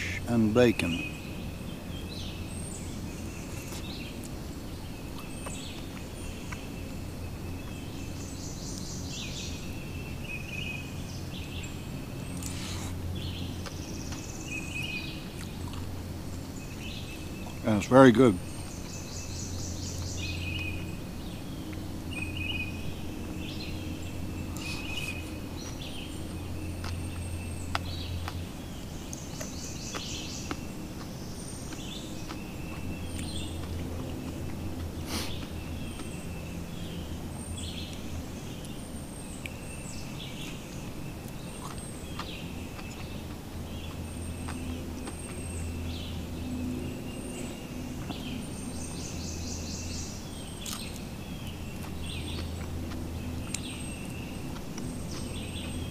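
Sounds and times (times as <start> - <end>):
birds chirping and calling: 0.0 - 55.9.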